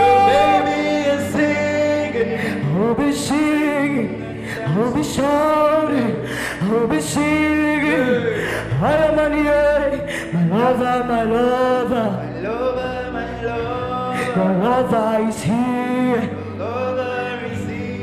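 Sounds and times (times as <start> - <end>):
sustained instrumental chords: 0.0 - 18.0.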